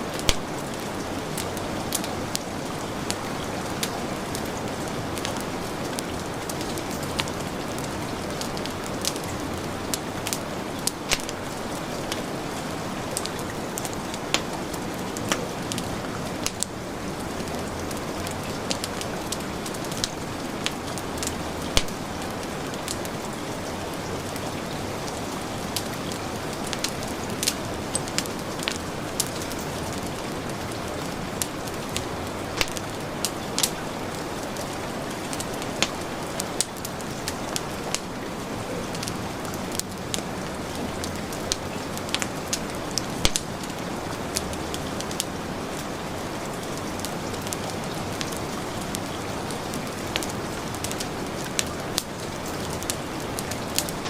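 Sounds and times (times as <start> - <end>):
heavy rain falling: 0.0 - 54.0
wood fire crackling and popping: 0.0 - 54.0.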